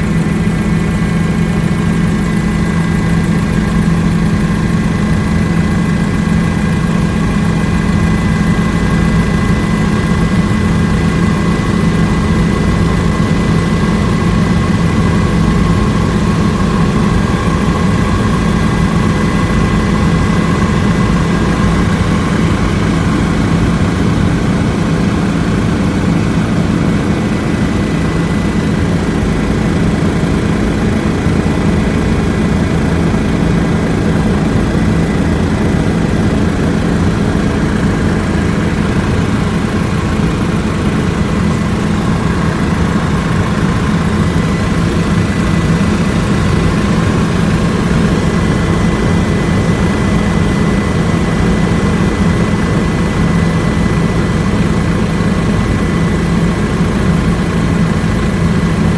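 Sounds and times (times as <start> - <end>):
aircraft cabin engine drone: 0.0 - 58.9
thin steady whine: 0.0 - 58.9.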